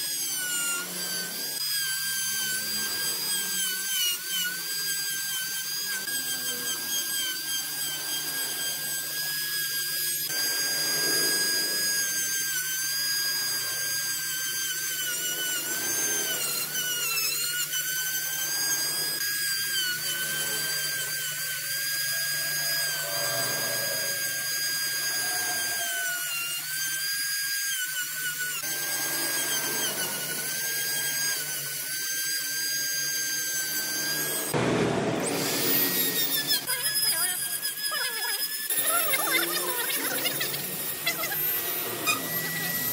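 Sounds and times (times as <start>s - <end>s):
rotary tool whining cutting wood: 0.0s - 42.9s.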